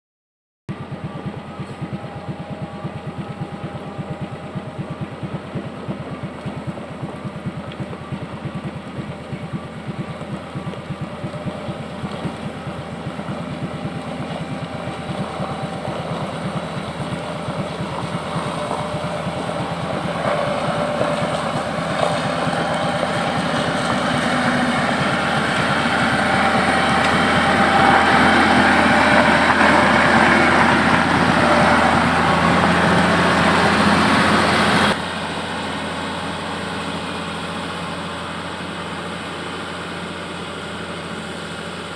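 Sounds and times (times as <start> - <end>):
diesel engine throbbing: 0.7 - 41.9.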